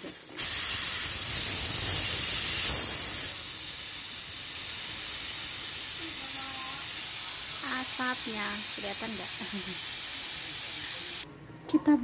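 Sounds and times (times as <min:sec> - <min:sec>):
pressure cooker steam hissing: 0:00.3 - 0:11.3.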